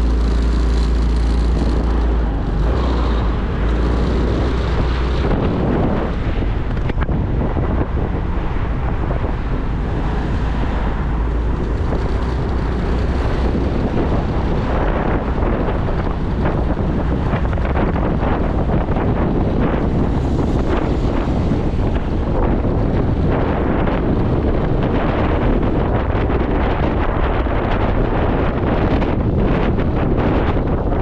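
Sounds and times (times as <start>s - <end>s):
motorcycle engine and road noise: 0.0s - 31.0s
wind buffeting microphone: 0.0s - 31.0s.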